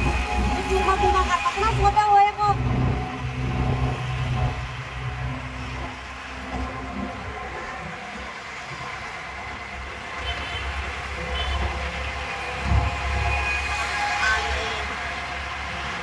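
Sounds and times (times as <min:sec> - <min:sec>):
auto-rickshaw engine running: 0:00.0 - 0:16.0
road noise: 0:00.0 - 0:16.0
traffic passing: 0:00.0 - 0:16.0.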